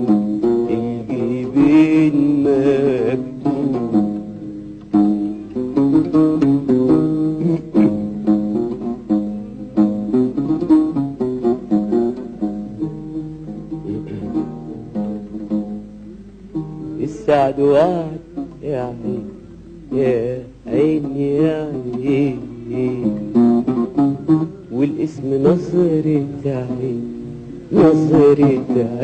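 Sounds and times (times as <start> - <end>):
person singing: 0.0 - 15.2, 16.1 - 29.0
acoustic guitar melody: 0.0 - 29.0.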